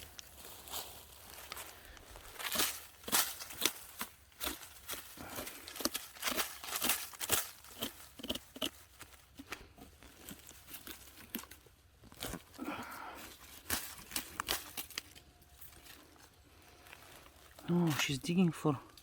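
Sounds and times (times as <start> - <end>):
footsteps on forest floor: 0.0 - 19.0.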